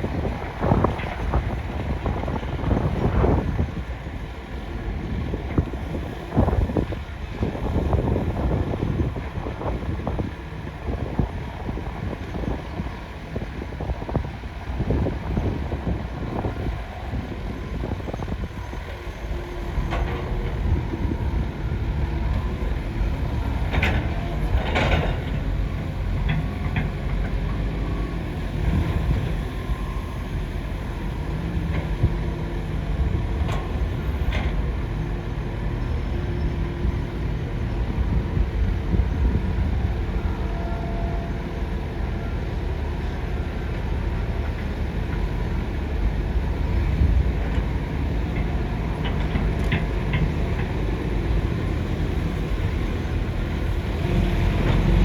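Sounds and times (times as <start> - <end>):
excavator engine rumble: 0.0 - 55.0.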